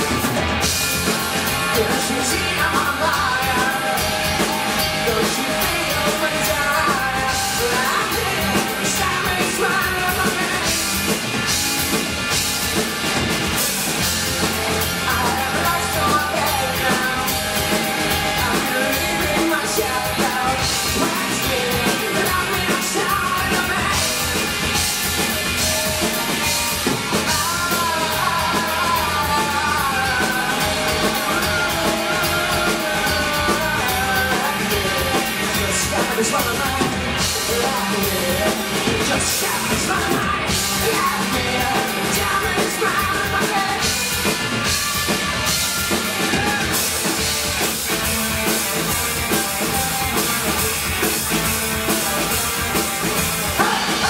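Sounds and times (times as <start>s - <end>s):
drum kit: 0.0s - 54.0s
electric bass: 0.0s - 54.0s
electric guitars: 0.0s - 54.0s
man singing: 1.0s - 11.2s, 14.3s - 45.3s, 46.0s - 54.0s.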